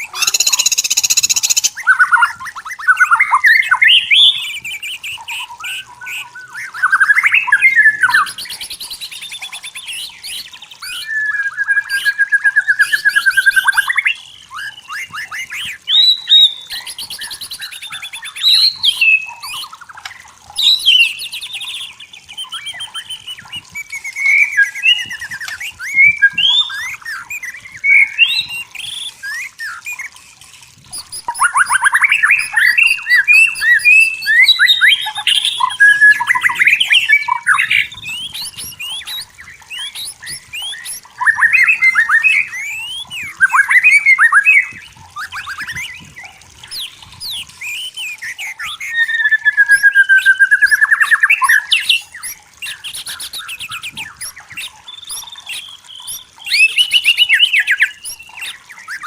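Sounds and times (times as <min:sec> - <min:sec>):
bird singing trills and whistles: 0:00.0 - 0:59.0.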